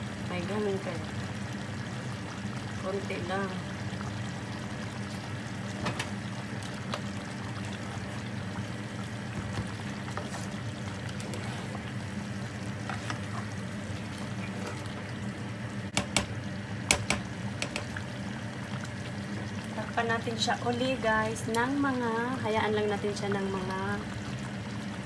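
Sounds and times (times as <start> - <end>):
steady low hum: 0.0 - 25.0
stew simmering in a pot: 0.0 - 25.0.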